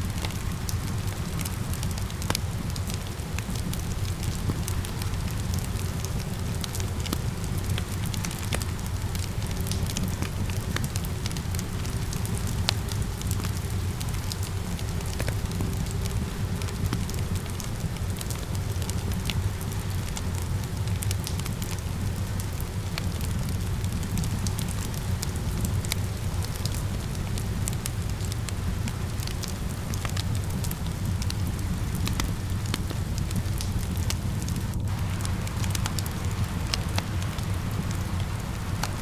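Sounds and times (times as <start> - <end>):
rain falling: 0.0 - 39.0
wood fire crackling and popping: 0.0 - 39.0.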